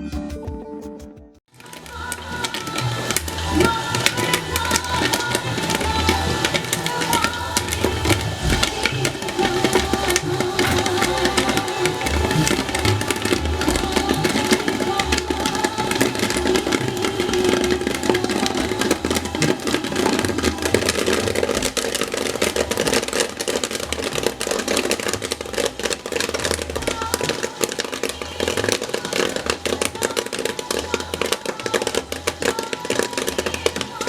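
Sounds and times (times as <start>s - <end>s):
popcorn machine rattling: 1.5s - 34.0s.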